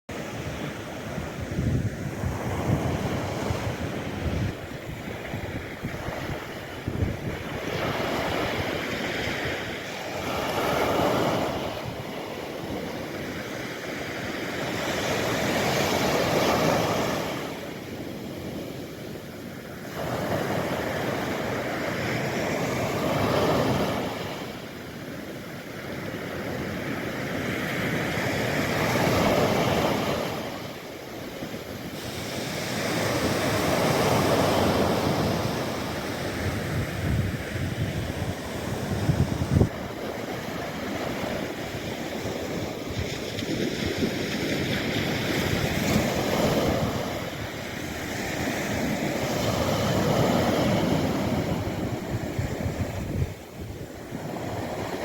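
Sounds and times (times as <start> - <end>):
surf breaking on a beach: 0.1 - 55.0
wind buffeting the microphone: 0.1 - 55.0.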